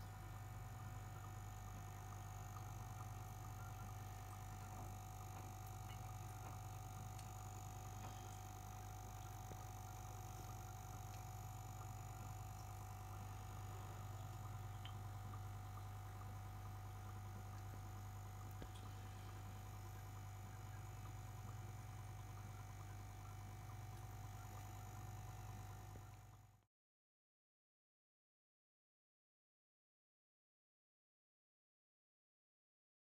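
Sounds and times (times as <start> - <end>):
faint steady tone: 0.0 - 26.5
faint low hum: 0.0 - 26.6.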